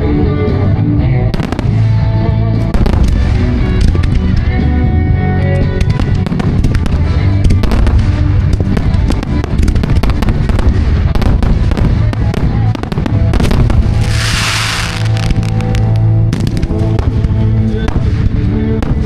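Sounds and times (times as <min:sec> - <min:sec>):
music playing: 0:00.0 - 0:19.0
fireworks cracking and banging: 0:01.3 - 0:04.8, 0:05.5 - 0:19.0.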